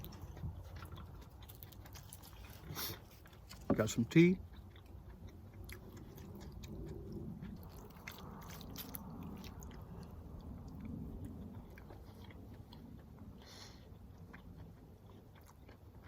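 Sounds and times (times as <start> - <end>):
person chewing soft food: 0.0 - 16.0.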